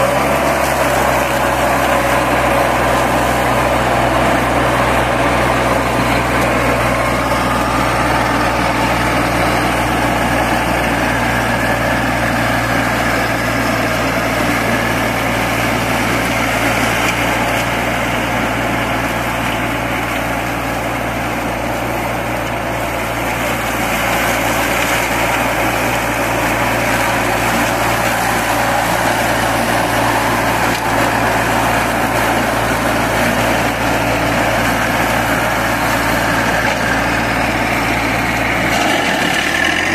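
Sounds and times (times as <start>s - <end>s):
cutting deck whirring: 0.0s - 39.9s
riding mower engine hum: 0.0s - 39.9s.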